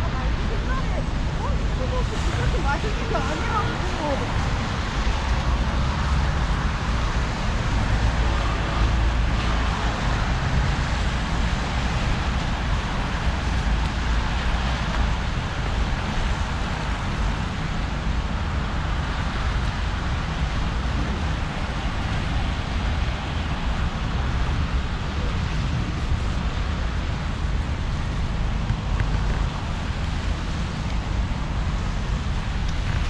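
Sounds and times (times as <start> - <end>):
cars on wet slushy roads: 0.0 - 33.0
low traffic rumble: 0.0 - 33.0.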